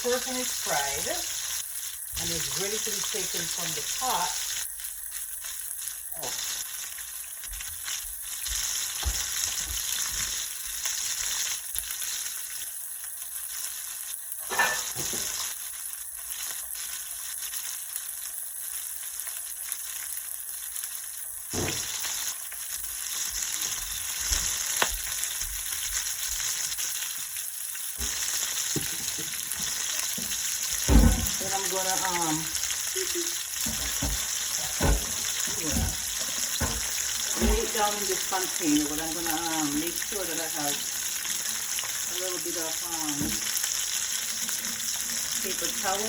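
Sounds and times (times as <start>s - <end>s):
fish deep-frying in oil: 0.0s - 46.0s.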